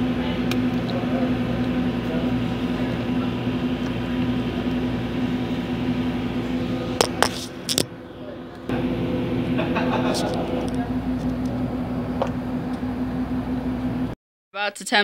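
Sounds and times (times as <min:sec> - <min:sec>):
coffee machine humming: 0:00.0 - 0:14.2.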